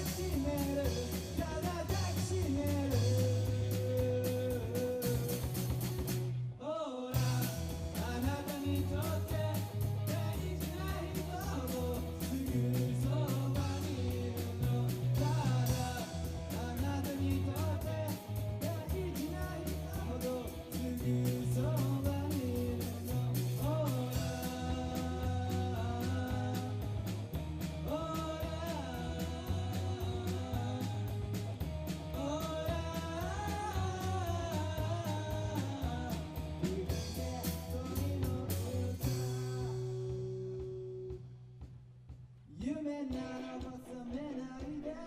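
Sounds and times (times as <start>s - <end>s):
live rock band playing: 0.0s - 6.5s, 7.2s - 41.4s.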